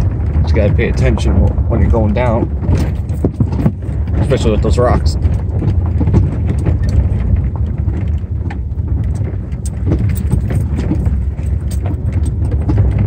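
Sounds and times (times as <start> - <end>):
car engine and tyre rumble: 0.0 - 13.0
car knocking and rattling over rocks: 0.0 - 13.0.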